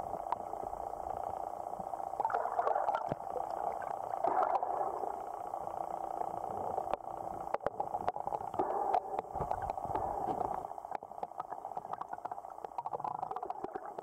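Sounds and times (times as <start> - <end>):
gurgling water: 0.0 - 14.0
muffled underwater noise: 0.0 - 14.0.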